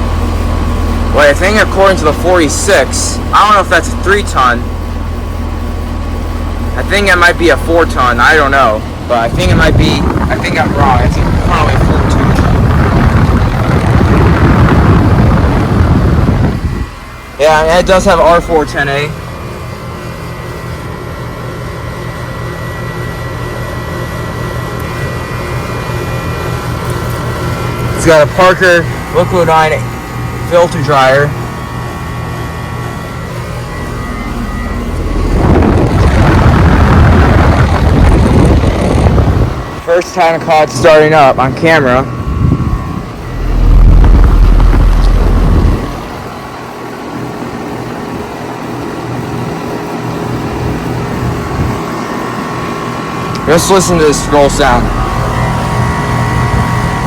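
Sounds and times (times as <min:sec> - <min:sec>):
heavy low rumble: 0:00.0 - 0:21.9, 0:26.5 - 0:46.6, 0:50.6 - 0:57.0
compressor hum: 0:00.0 - 0:57.0
condenser fan rushing: 0:00.0 - 0:57.0
faint steady whine: 0:00.0 - 0:57.0.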